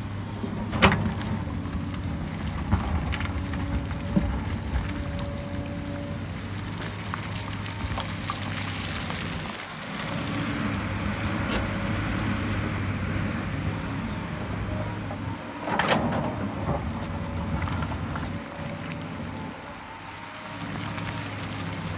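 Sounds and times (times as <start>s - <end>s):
excavator diesel engine running: 0.0s - 21.9s
dirt and stones moving: 0.1s - 21.9s.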